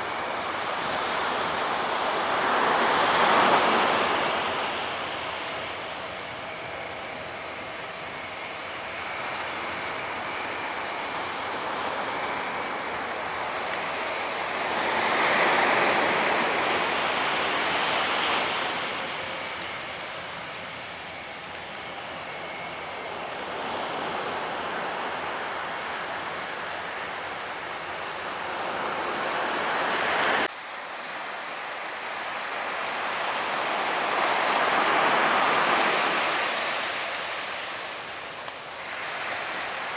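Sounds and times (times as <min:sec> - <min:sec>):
waves washing onto beach: 0:00.0 - 0:39.9.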